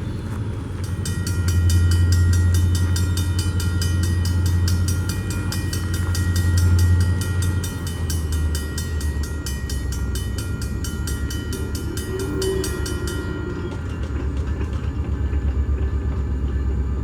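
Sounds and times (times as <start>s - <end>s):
diesel locomotive rumble: 0.0s - 17.0s
train rattling clatter: 0.0s - 17.0s.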